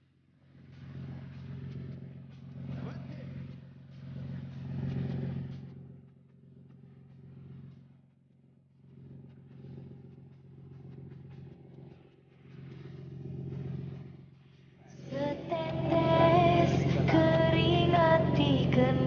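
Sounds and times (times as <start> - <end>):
engine humming: 0.4 - 8.0, 8.9 - 19.0.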